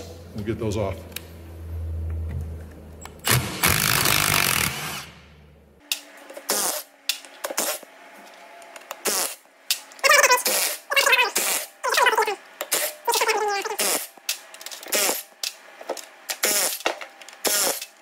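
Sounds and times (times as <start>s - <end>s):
impact wrench whining: 3.2s - 18.0s.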